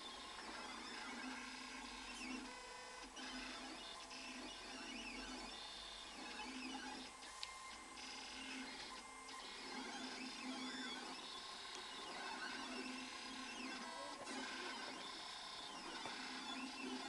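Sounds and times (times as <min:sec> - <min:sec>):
cutting plotter motors whining: 0:00.0 - 0:17.0.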